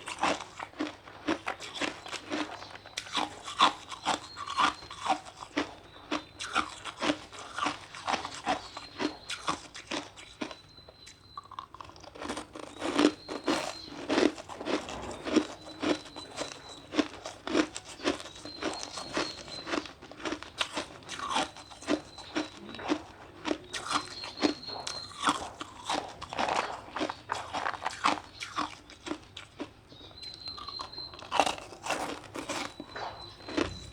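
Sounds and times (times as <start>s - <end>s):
ice being chewed: 0.0s - 33.9s.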